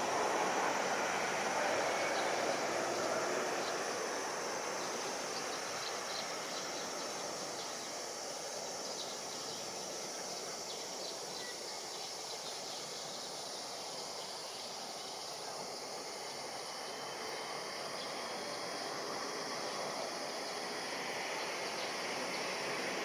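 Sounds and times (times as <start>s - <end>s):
distant jet airliner hiss: 0.0s - 23.0s
insects buzzing: 0.0s - 23.0s.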